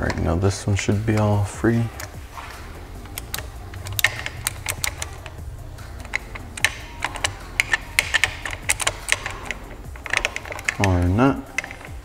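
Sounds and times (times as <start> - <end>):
metallic clicks and clinks: 1.2 - 12.0.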